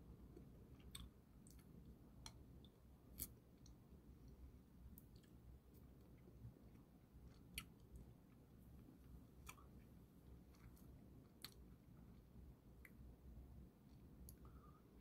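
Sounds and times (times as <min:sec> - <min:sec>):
low room hum: 0:00.0 - 0:15.0
faint chewing: 0:00.3 - 0:13.0.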